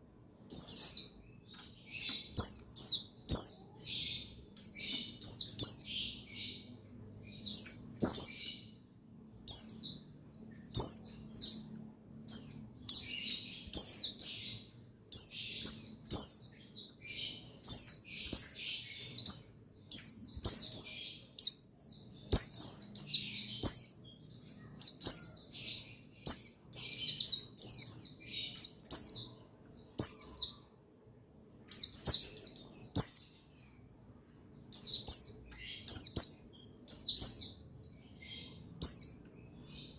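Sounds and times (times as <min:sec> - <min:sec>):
birds twittering in a flock: 0:00.0 - 0:39.9.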